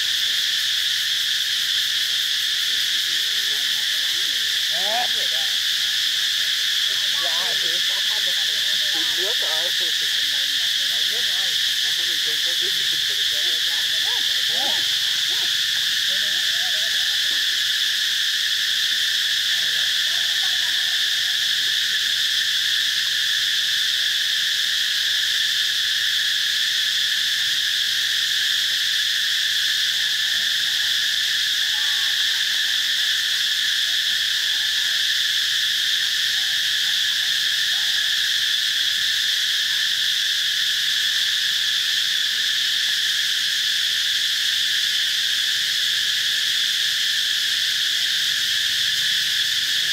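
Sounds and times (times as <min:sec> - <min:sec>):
insect chorus buzzing: 0:00.0 - 0:49.9.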